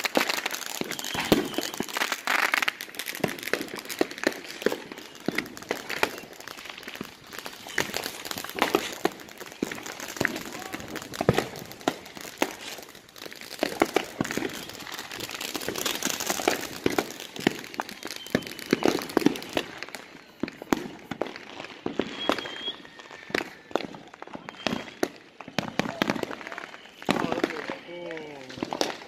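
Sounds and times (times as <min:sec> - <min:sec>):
fireworks crackling: 0:00.0 - 0:29.0
fireworks popping and banging: 0:00.0 - 0:29.0.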